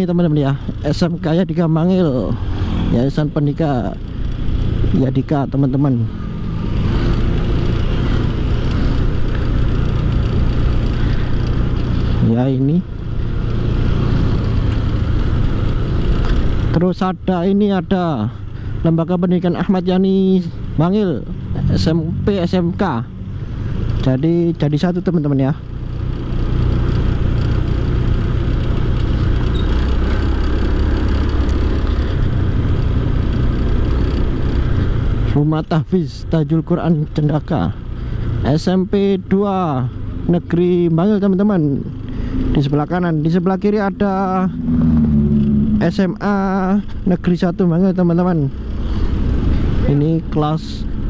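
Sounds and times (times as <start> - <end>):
motorcycle engine cruising: 0.0 - 51.0
wind and road noise: 0.0 - 51.0.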